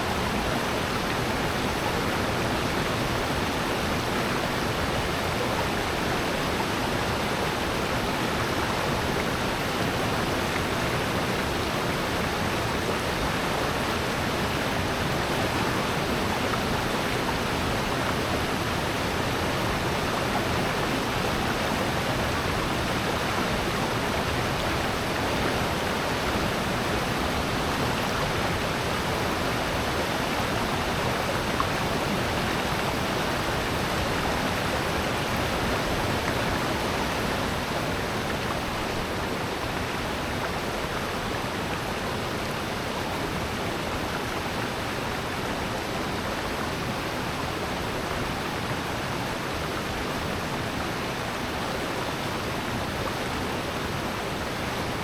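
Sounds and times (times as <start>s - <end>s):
stream and waterfall rushing: 0.0s - 55.0s.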